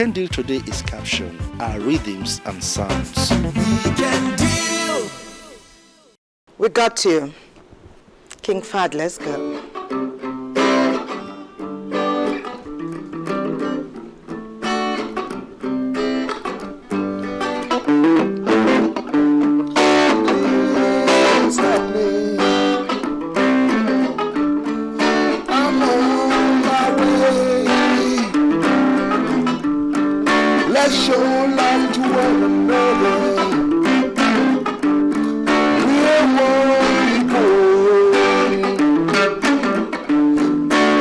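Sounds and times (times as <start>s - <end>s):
guitar playing picked notes: 0.0s - 6.2s, 9.1s - 41.0s.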